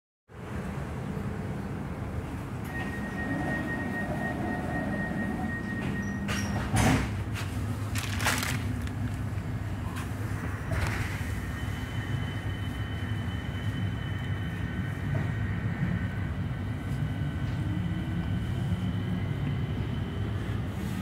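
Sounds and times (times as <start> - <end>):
rising train whine: 0.3 - 21.0
train rumble inside carriage: 0.3 - 21.0.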